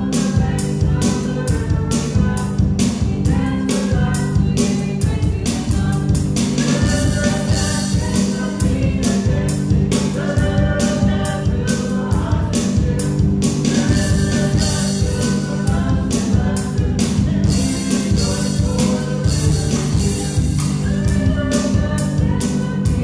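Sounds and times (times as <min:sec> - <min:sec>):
band with drum kit and bass: 0:00.0 - 0:23.0
people singing: 0:00.0 - 0:23.0.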